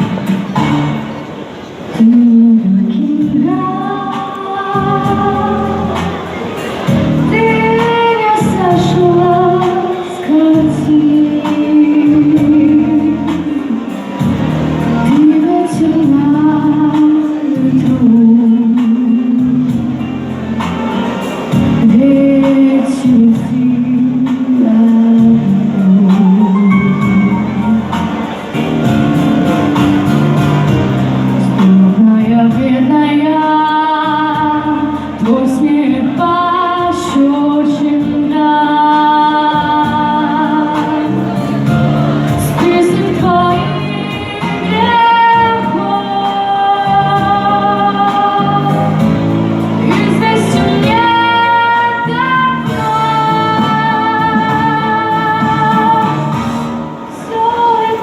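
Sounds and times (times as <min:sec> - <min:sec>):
backing track with guitar: 0:00.0 - 0:58.0
woman singing: 0:01.9 - 0:20.8, 0:21.5 - 0:28.2, 0:30.7 - 0:58.0.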